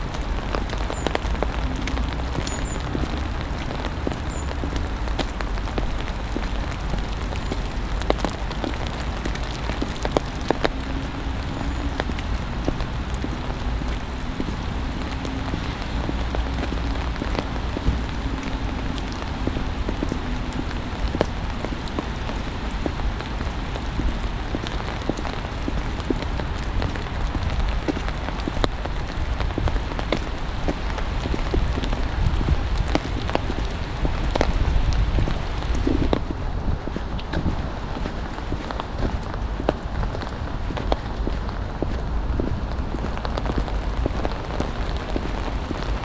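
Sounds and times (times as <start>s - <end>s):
rain and wet snow falling: 0.0s - 46.0s.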